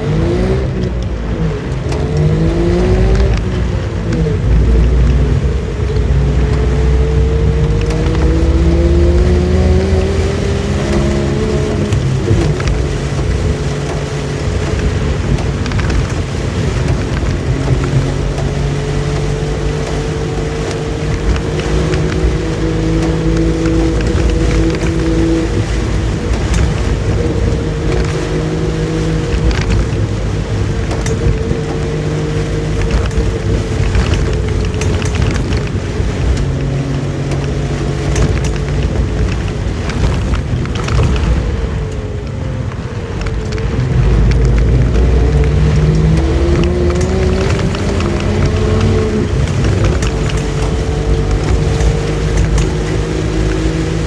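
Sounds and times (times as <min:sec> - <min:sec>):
car engine running: 0:00.0 - 0:54.0
heavy rain: 0:00.0 - 0:54.0
road noise: 0:00.0 - 0:54.0
wind noise: 0:00.0 - 0:54.0.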